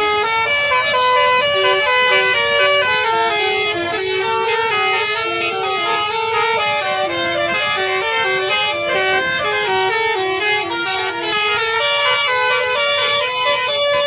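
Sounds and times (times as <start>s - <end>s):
bus horns tooting melodies: 0.0s - 14.0s.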